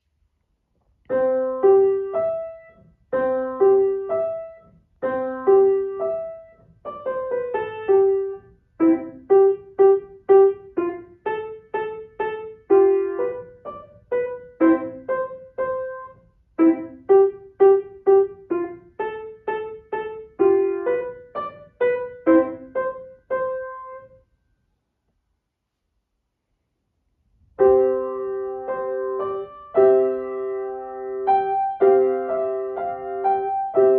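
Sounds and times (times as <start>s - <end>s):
piano held chords: 1.1s - 24.2s, 27.6s - 33.9s.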